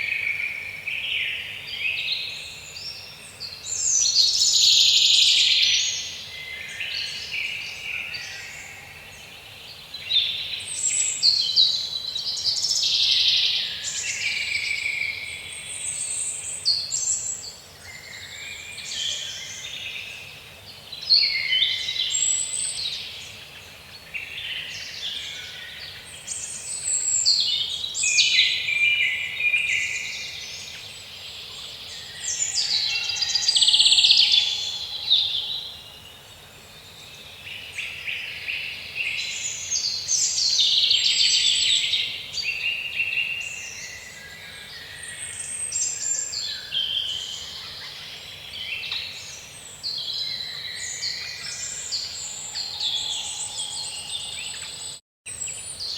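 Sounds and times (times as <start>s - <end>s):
songbirds singing and chirping: 0.0s - 55.9s.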